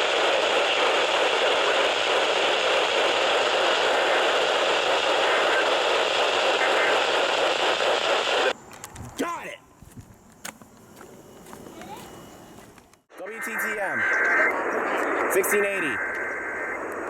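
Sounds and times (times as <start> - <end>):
radio static hiss: 0.0 - 8.6, 11.5 - 17.0.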